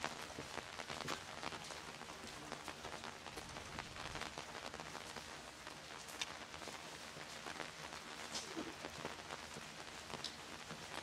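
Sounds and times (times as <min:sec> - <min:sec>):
rain on wet paving: 0:00.0 - 0:11.0.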